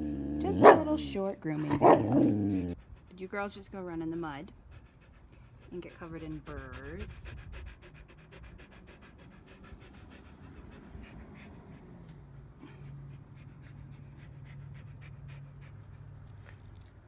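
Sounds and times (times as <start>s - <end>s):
dog panting: 1.8s - 16.9s.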